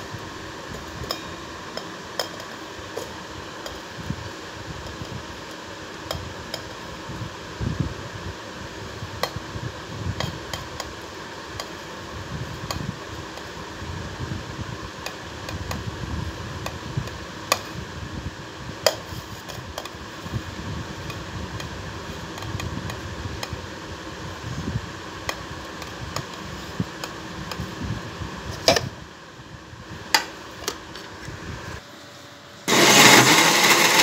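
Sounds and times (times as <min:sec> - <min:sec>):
steady background whir: 0:00.0 - 0:34.0.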